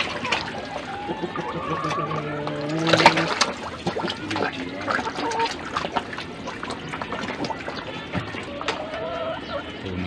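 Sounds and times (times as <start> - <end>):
fish splashing in pond water: 0.0 - 9.8.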